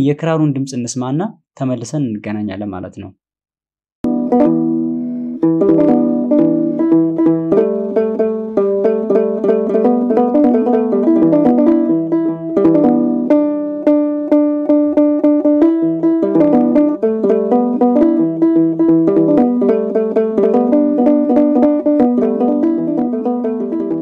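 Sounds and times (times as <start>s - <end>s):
lyre plucked notes: 4.0s - 24.0s.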